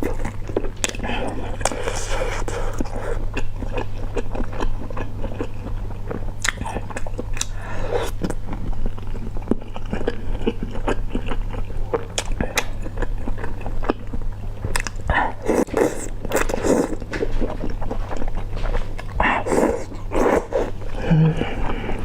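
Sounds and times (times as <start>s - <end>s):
chewing and biting food: 0.0s - 22.0s.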